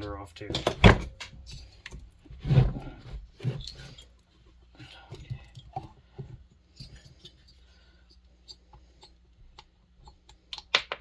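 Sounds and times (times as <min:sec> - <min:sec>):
tools tapping and scraping metal: 0:00.0 - 0:02.3, 0:03.0 - 0:11.0.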